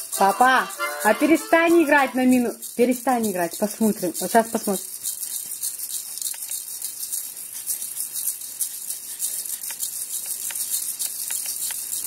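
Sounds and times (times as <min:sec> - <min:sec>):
hand-shaken rattle: 0:00.0 - 0:12.0.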